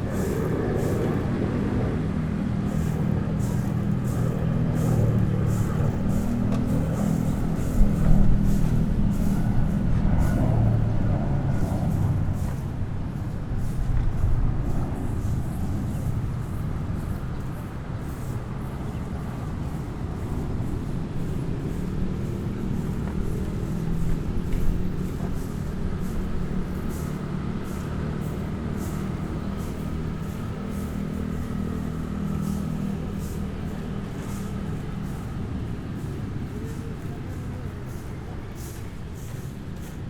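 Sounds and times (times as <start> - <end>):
motor vehicles passing: 0.0 - 40.0
steady engine hum: 0.0 - 40.0.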